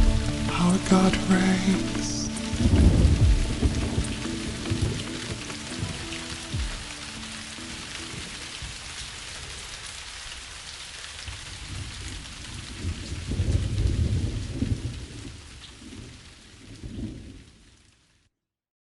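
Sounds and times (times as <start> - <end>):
thunder rumbling: 0.0 - 9.7, 11.2 - 17.6
rain hissing: 0.0 - 18.0.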